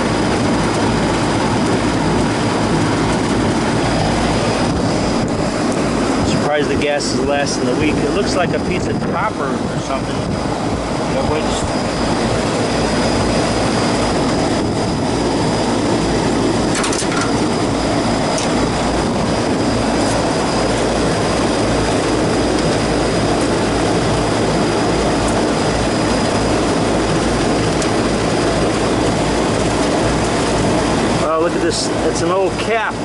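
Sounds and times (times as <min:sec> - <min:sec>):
air conditioner roaring: 0:00.0 - 0:33.0.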